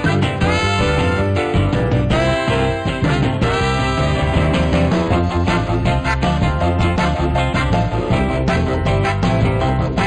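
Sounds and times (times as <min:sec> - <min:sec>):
instrumental band music: 0:00.0 - 0:10.0.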